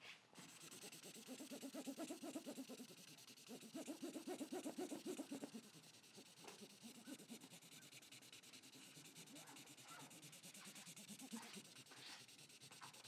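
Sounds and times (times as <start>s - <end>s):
marker rubbing on paper: 0.4s - 13.0s.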